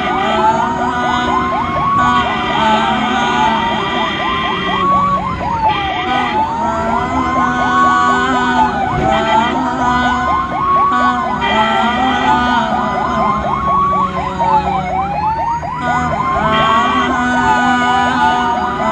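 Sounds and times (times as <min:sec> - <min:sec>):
ambulance siren warbling: 0:00.0 - 0:18.9
horn blaring: 0:00.0 - 0:18.9.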